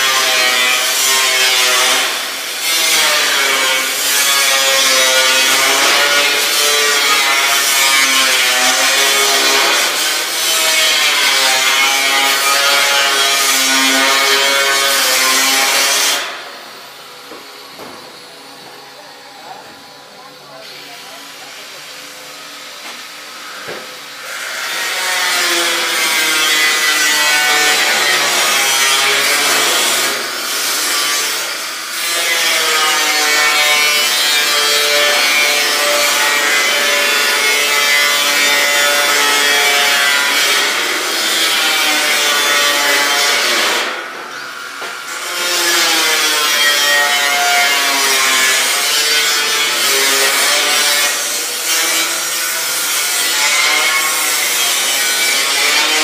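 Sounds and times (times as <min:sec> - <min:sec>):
power grinder on steel sheet: 0:00.0 - 0:56.0.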